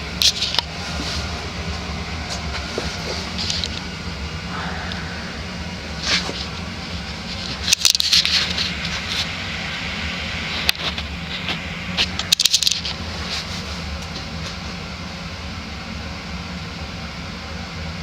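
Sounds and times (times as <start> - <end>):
ceiling fan running: 0.0 - 17.4.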